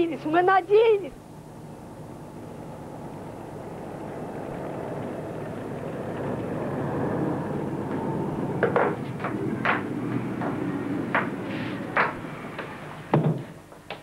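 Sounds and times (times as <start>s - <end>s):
industrial plant roar: 1.4s - 13.2s.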